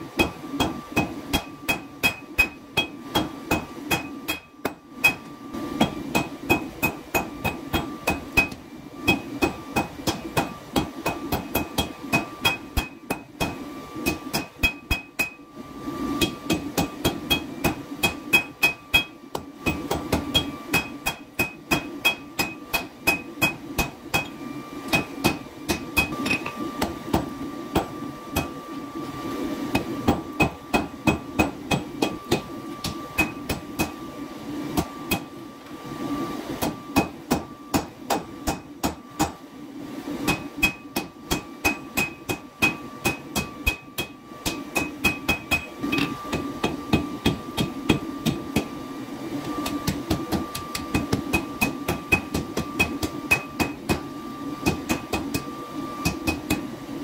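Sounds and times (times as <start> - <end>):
hammer striking hot steel on anvil: 0.2 - 15.4, 16.2 - 24.3, 24.9 - 28.5, 29.7 - 34.0, 34.8 - 35.3, 36.6 - 39.4, 40.2 - 48.7, 49.8 - 54.0, 54.6 - 56.6.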